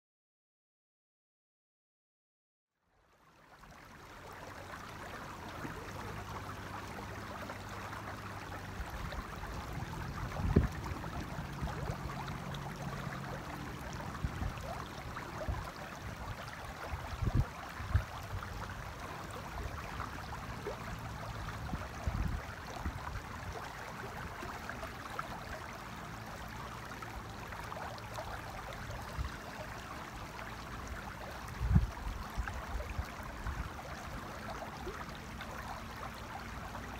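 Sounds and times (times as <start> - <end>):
river flowing over stones: 3.3 - 36.9.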